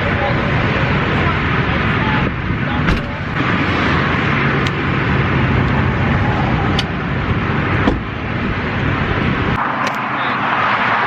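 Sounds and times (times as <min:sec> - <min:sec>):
moving car road noise: 0:00.0 - 0:11.0.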